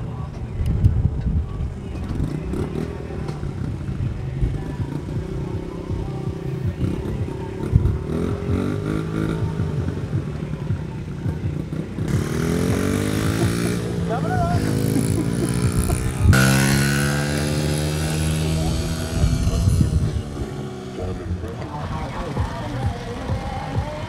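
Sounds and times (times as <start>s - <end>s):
dirt bike engine revving: 1.8s - 24.0s.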